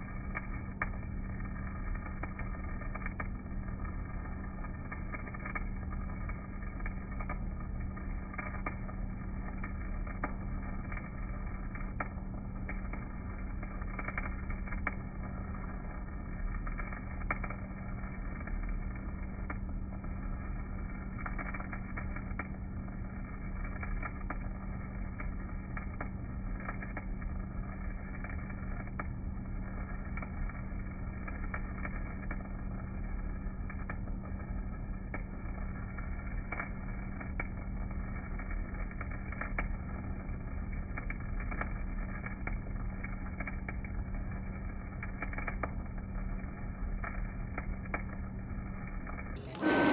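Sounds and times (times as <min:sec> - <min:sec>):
low hum: 0:00.0 - 0:49.9
welding arc crackling: 0:00.0 - 0:49.9.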